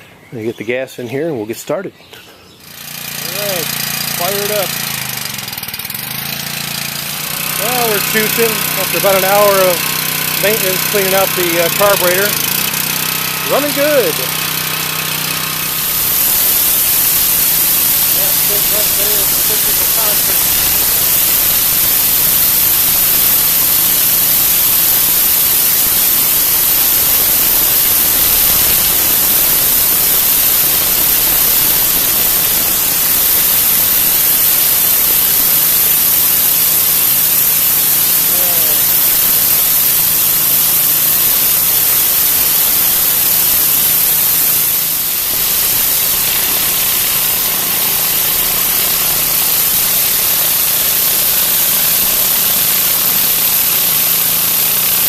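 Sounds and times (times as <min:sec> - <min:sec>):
engine humming: 0:02.4 - 0:52.3
water spray hissing on concrete: 0:02.6 - 0:55.0.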